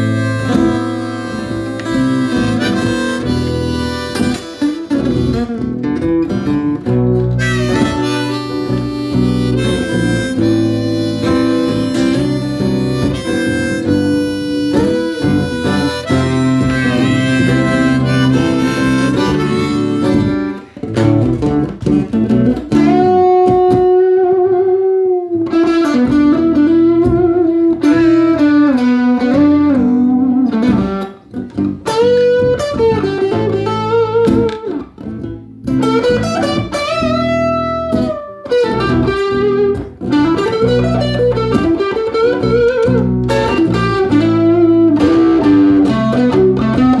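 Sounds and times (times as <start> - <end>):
blues guitar plucking: 0.0 - 47.0
harmonica bending notes: 0.0 - 47.0.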